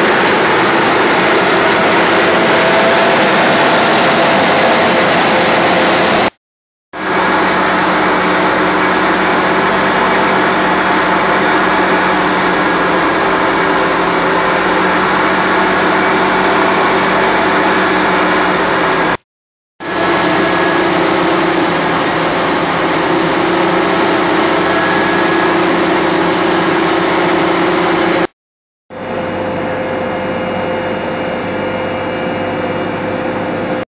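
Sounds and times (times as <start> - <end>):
diesel tractor engine running: 0.0 - 6.4, 7.0 - 19.2, 19.8 - 28.3, 28.9 - 33.8
forage blower: 0.0 - 6.4, 7.0 - 19.2, 19.8 - 33.8.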